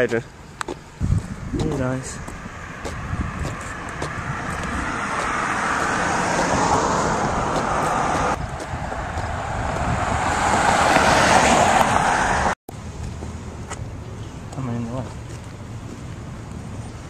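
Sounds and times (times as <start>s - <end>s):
passing cars: 0.0s - 17.0s.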